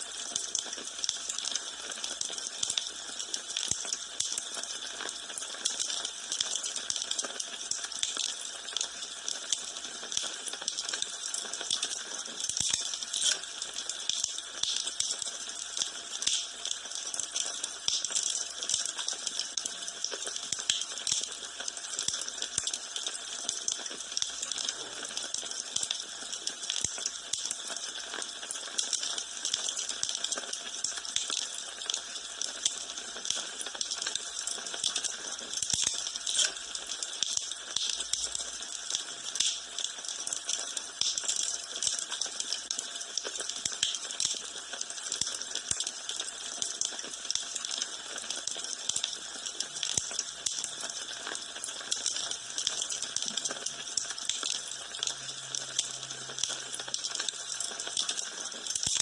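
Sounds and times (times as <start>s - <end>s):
wood fire crackling: 2.2s - 59.0s.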